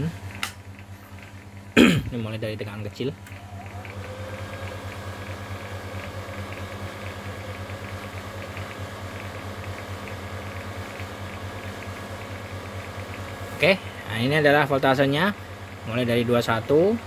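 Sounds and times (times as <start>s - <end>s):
amplifier fan humming: 0.0s - 17.0s.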